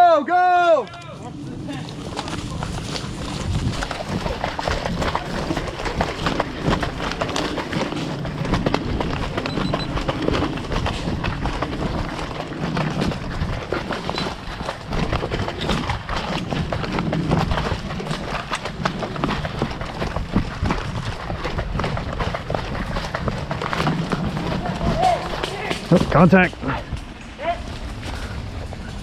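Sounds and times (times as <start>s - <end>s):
running footsteps: 1.9s - 29.0s.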